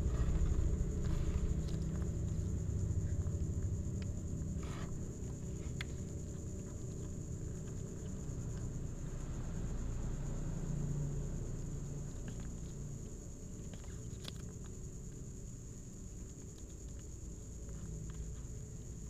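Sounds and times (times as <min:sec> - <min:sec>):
kitten chewing: 0:00.0 - 0:08.9, 0:11.9 - 0:19.0
steady low hum: 0:00.0 - 0:19.0.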